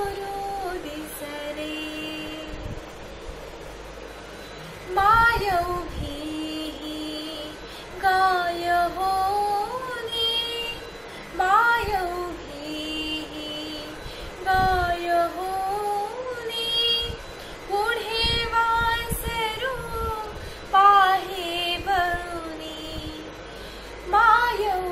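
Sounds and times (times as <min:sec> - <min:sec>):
woman singing devotional song: 0:00.0 - 0:02.9, 0:04.7 - 0:24.9.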